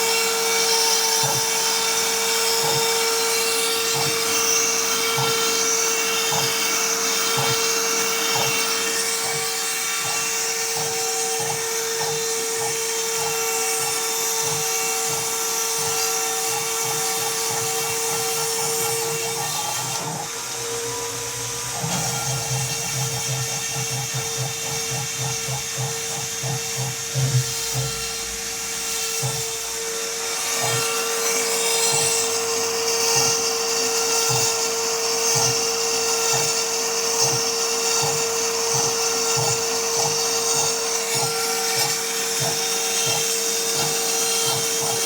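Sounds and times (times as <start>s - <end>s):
router spindle whine: 0.0s - 45.0s.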